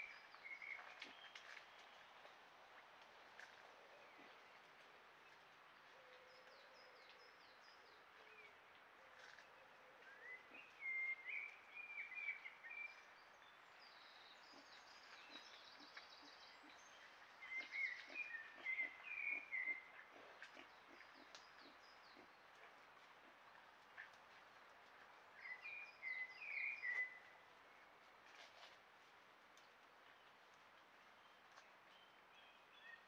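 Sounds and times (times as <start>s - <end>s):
songbird singing: 0.0s - 2.4s, 3.9s - 8.7s, 9.4s - 24.1s, 25.3s - 28.1s, 29.7s - 33.0s.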